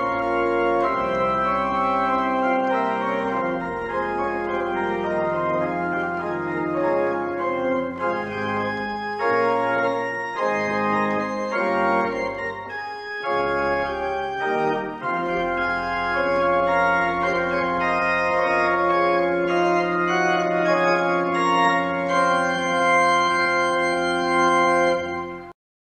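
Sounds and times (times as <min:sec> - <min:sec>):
organ playing chords: 0:00.0 - 0:25.6.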